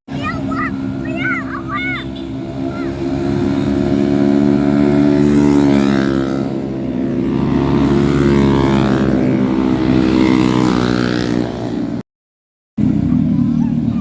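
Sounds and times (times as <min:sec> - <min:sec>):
motorcycle engine droning: 0:00.1 - 0:12.0, 0:12.8 - 0:14.0.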